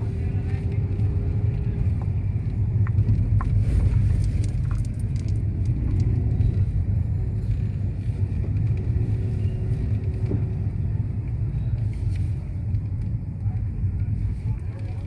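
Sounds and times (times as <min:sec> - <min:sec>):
low rumble of moving vehicle: 0:00.0 - 0:15.0.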